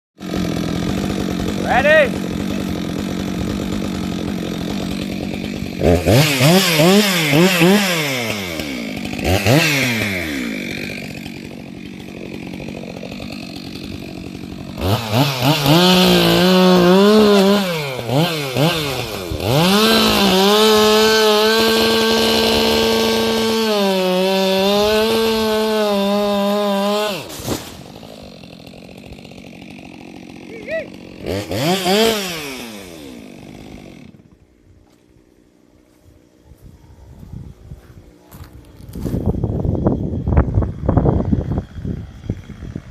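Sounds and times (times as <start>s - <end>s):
chainsaw idling and revving: 0.2s - 35.6s, 38.1s - 42.9s.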